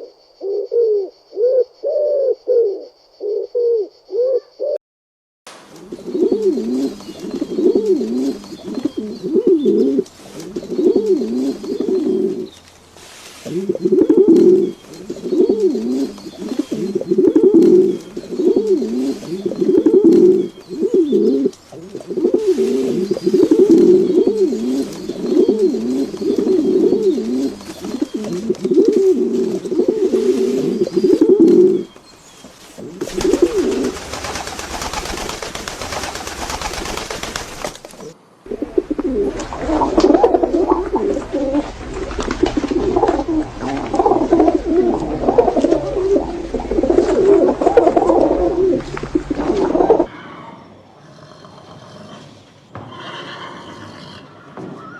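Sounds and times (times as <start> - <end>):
bird cooing: 0.0 - 4.8, 5.7 - 12.6, 13.4 - 32.0, 32.8 - 37.4, 38.0 - 50.1
steady hiss: 5.5 - 50.0.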